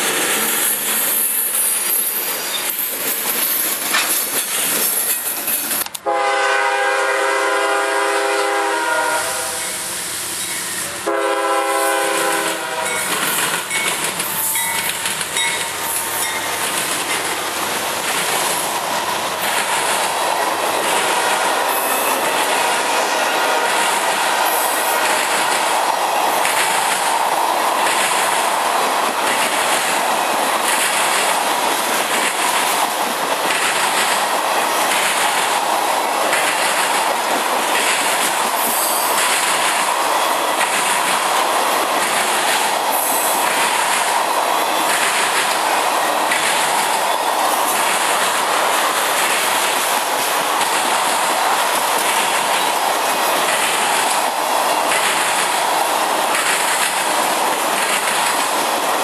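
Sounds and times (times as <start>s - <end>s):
wheels clacking over rail joints: 0.0s - 6.1s, 12.0s - 59.0s
train wheels rushing on rails: 0.0s - 59.0s.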